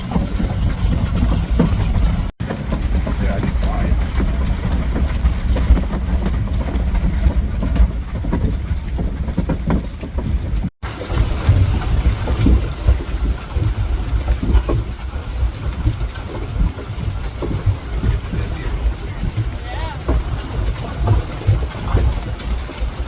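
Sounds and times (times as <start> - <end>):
wagon clatter and rattling: 0.0 - 23.0
wagon wheels rumbling: 0.0 - 23.0.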